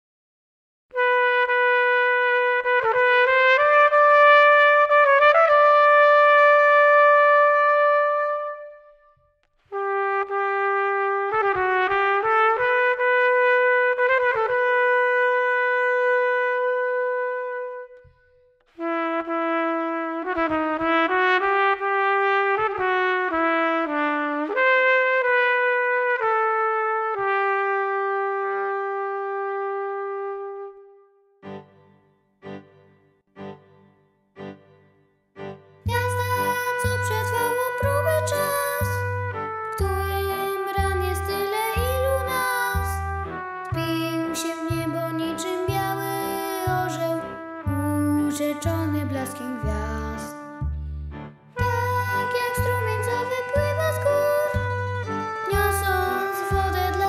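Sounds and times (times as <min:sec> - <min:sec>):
solo trumpet melody: 0:00.9 - 0:31.6, 0:35.9 - 0:57.0.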